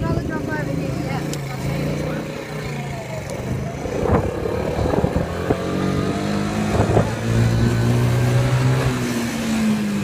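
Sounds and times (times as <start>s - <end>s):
small motorbike engine running: 0.0s - 8.3s.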